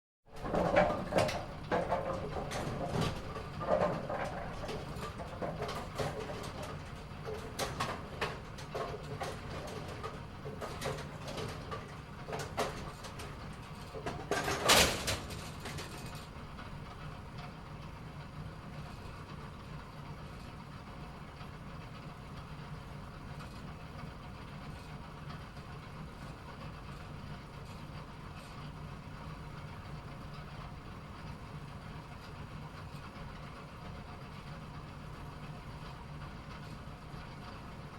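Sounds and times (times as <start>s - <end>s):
low machine hum: 0.3s - 37.9s.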